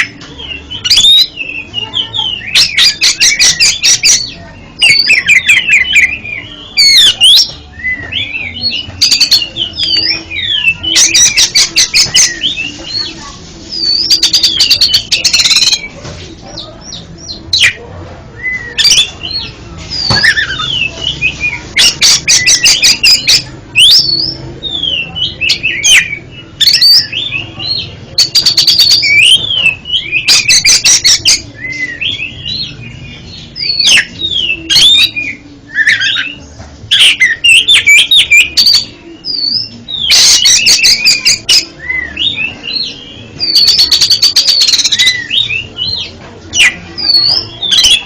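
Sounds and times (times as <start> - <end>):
bird singing whistled song: 0.0 - 13.1, 13.7 - 15.9, 18.4 - 48.0.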